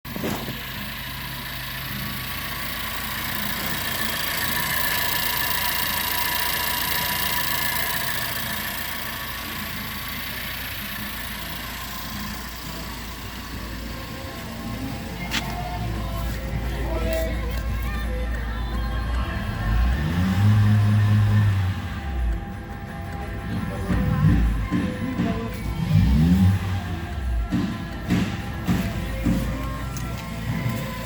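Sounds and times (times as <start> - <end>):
engine idling: 0.1 - 31.0.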